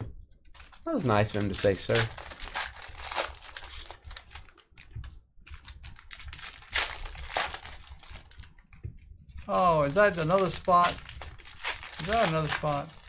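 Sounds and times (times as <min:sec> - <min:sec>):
foil wrapper crinkling as torn open: 0:00.5 - 0:04.9, 0:05.5 - 0:08.6, 0:09.4 - 0:13.0.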